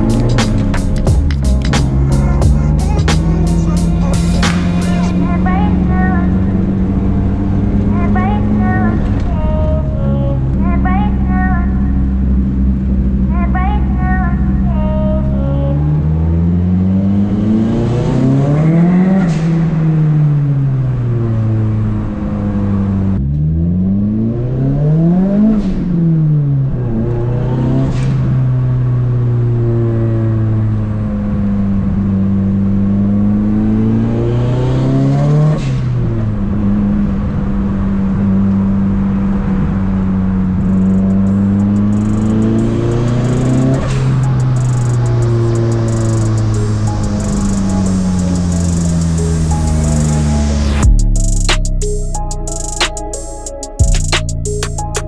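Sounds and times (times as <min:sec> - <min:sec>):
car engine accelerating hard: 0:00.0 - 0:10.6, 0:14.3 - 0:51.2.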